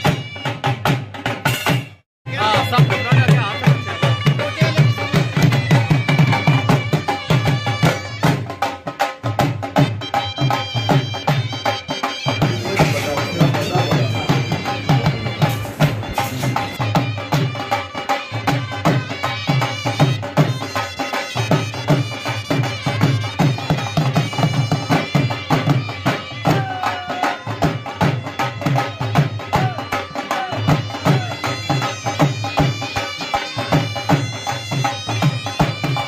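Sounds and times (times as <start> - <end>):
fast steady drumbeat: 0.0 - 36.0
wind instrument melody: 1.6 - 36.0.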